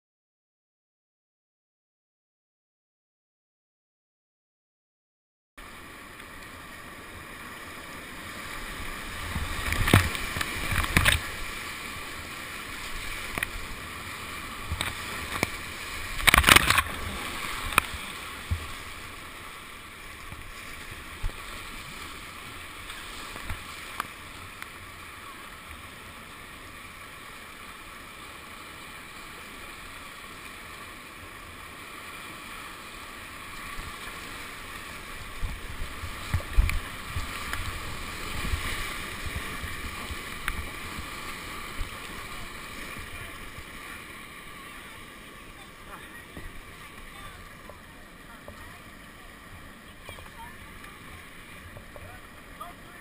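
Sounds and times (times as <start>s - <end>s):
waves hitting boat: 5.6s - 53.0s
whitewater rushing: 5.6s - 53.0s
paddle splashes: 5.7s - 53.0s.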